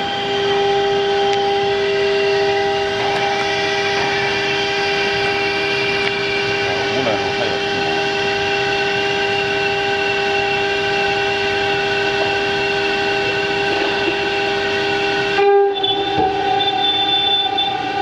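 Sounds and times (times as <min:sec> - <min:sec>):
router spindle whine: 0:00.0 - 0:18.0.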